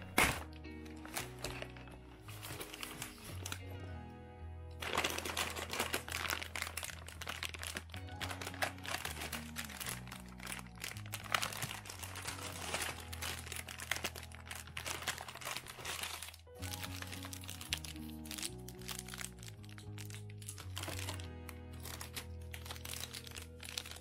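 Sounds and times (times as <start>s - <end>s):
plastic packets crinkling: 0.0s - 3.7s, 4.8s - 24.0s.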